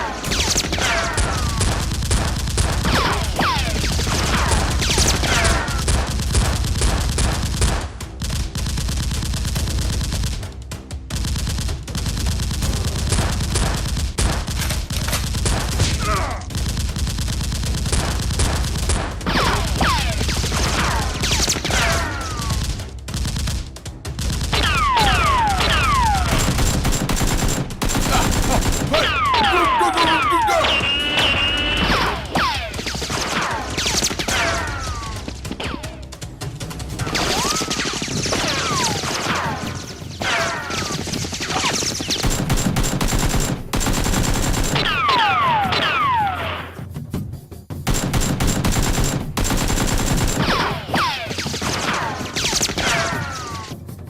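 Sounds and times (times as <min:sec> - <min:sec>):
rapid automatic gunfire: 0:00.2 - 0:31.0, 0:37.0 - 0:45.4, 0:47.8 - 0:53.7.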